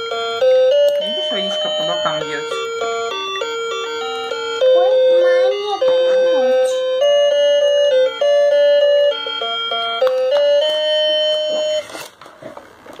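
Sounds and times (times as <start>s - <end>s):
toy beeping electronic tune: 0.0s - 12.0s.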